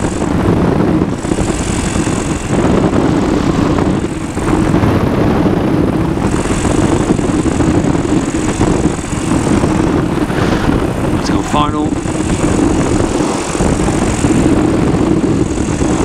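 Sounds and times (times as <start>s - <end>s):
engine and propeller drone: 0.0s - 16.0s
wind rush: 0.0s - 16.0s.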